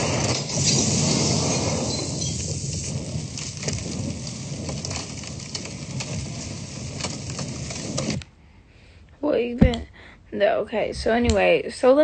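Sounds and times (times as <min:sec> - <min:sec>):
movie soundtrack hiss and rumble: 0:00.0 - 0:12.0.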